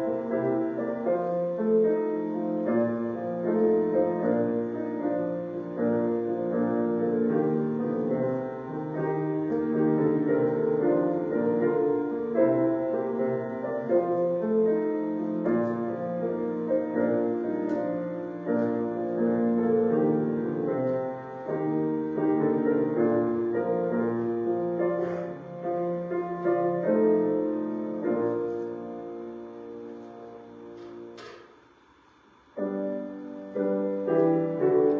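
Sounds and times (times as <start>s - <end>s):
solo piano playing slow chords: 0.0s - 34.9s.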